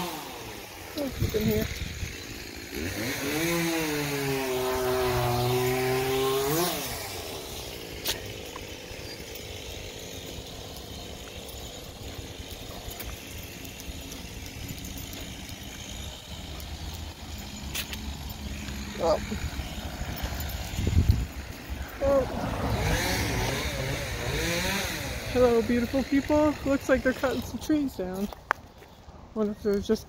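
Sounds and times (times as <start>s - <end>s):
small gasoline engine revving: 0.0s - 28.2s
faint engine hum: 4.0s - 29.9s.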